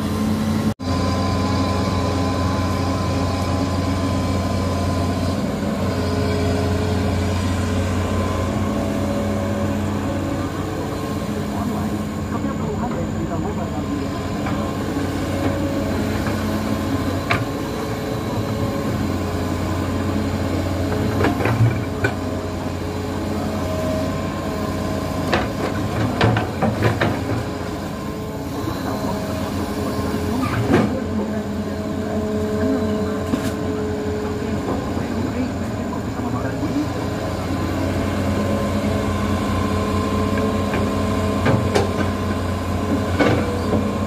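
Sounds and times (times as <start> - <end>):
excavator diesel engine under load: 0.0 - 44.0
hydraulic whine: 0.0 - 44.0.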